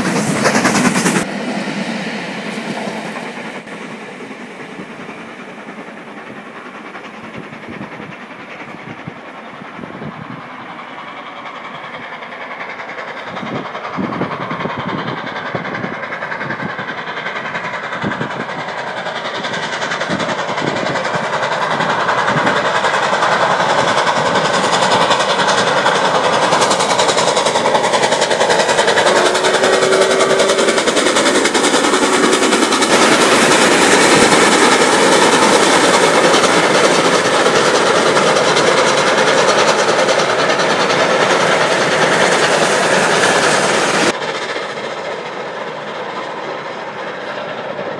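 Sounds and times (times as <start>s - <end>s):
steam train passing: 0.0s - 47.9s.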